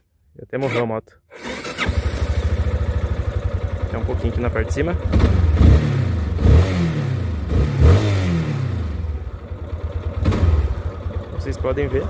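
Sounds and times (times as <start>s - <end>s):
motorcycle engine revving and idling: 1.6s - 12.0s.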